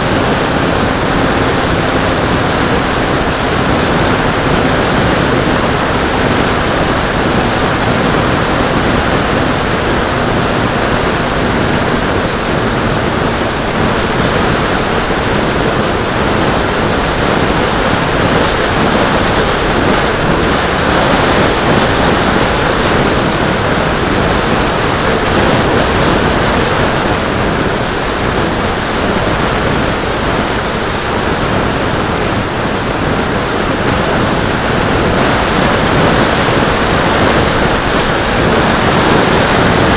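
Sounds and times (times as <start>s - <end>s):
electric motor and propeller: 0.0s - 39.9s
wind rushing on microphone: 0.0s - 39.9s.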